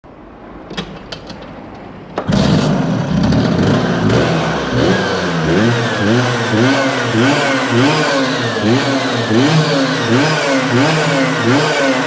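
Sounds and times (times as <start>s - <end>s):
scooter engine revving: 2.2s - 12.0s.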